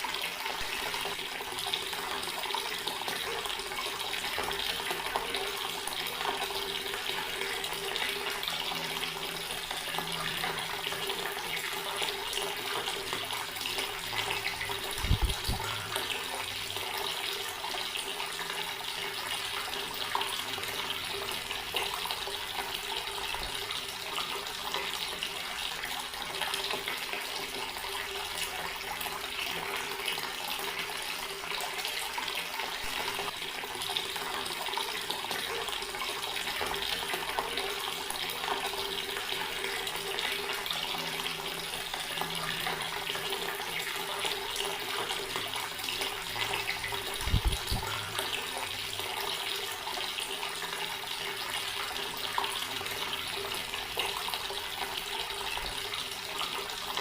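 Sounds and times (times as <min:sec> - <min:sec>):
tap water splashing into basin: 0:00.0 - 0:57.0.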